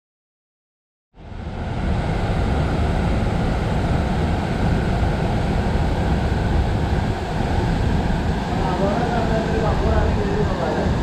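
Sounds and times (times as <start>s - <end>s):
waterfall rushing: 1.2s - 11.0s.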